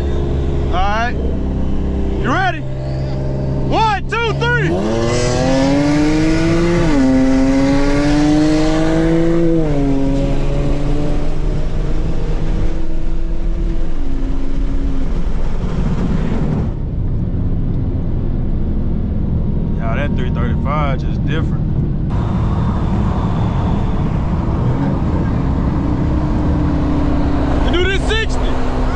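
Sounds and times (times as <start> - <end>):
car engine at full throttle: 0.0 - 28.9.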